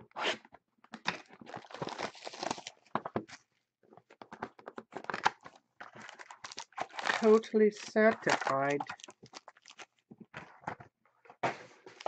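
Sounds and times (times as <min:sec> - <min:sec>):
cardboard rustling: 0:01.4 - 0:12.0.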